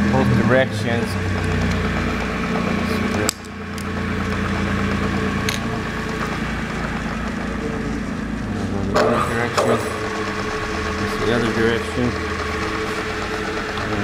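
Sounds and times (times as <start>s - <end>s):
mill spindle motor humming: 0.0s - 14.0s.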